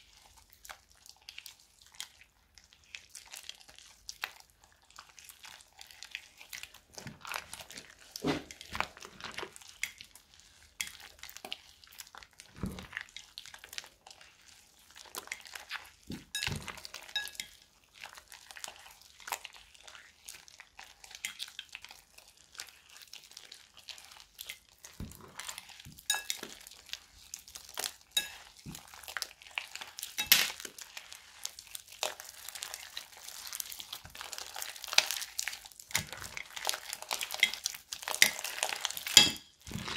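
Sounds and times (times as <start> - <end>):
plastic crinkling and crackling: 0.0 - 39.9
wet slime squelches: 0.0 - 39.9.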